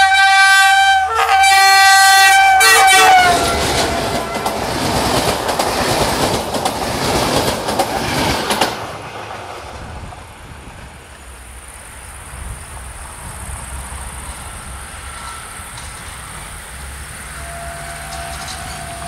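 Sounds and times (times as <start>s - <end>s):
faint low train rumble: 0.0s - 19.0s
train wheels clattering over rail joints: 3.1s - 19.0s.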